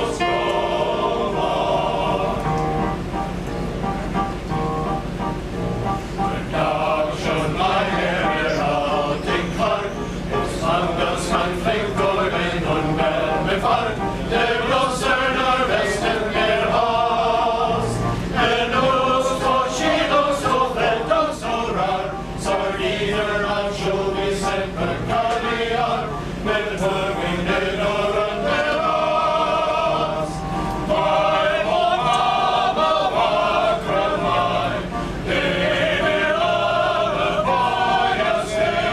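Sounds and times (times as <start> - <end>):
male chorus singing: 0.0 - 2.9, 6.3 - 38.9.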